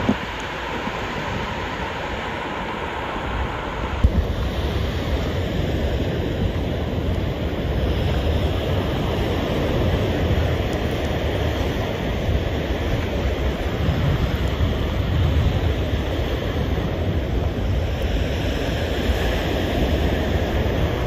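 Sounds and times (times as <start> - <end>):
ocean surf washing up: 0.0 - 21.0
wind buffeting microphone: 0.0 - 21.0.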